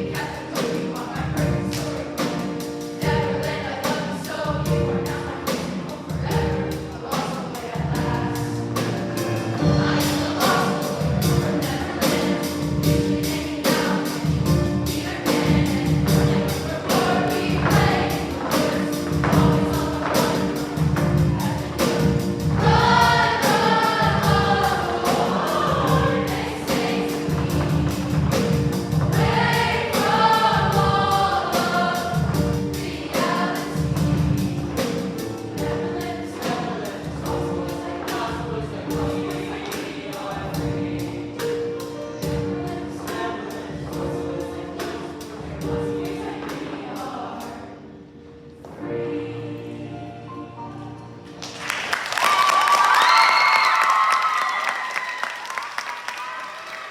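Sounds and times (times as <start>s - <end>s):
accompaniment with steady beat: 0.0s - 46.2s
choir singing: 0.0s - 52.1s.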